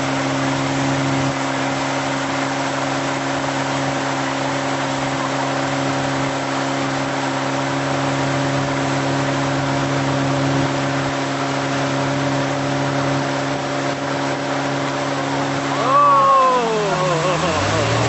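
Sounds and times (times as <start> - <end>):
boat engine running steadily: 0.0 - 18.0.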